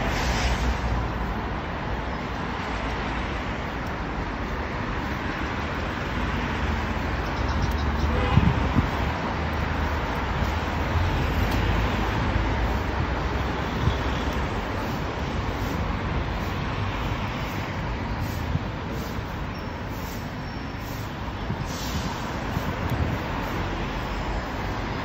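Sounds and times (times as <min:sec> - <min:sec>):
city road traffic rumble: 0:00.0 - 0:25.0.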